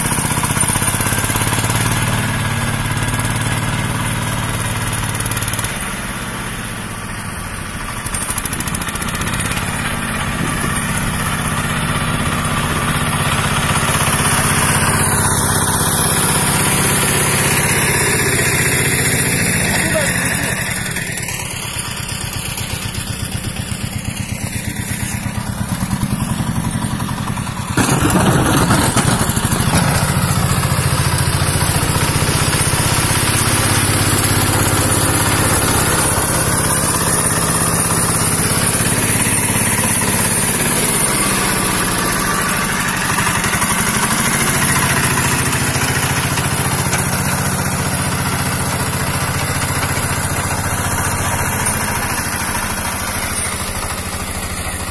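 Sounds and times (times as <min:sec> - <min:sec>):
small diesel engine running: 0:00.0 - 0:54.9.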